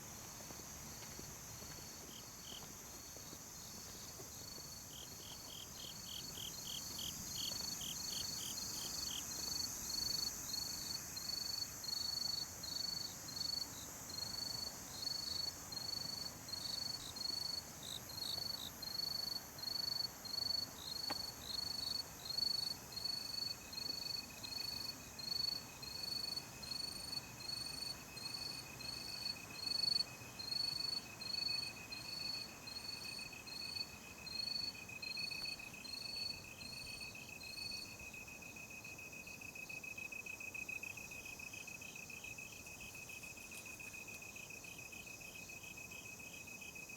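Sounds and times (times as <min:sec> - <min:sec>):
cricket chirping: 0:00.0 - 0:46.9
high steady insect hiss: 0:00.0 - 0:46.9
steady insect trill: 0:00.0 - 0:46.9.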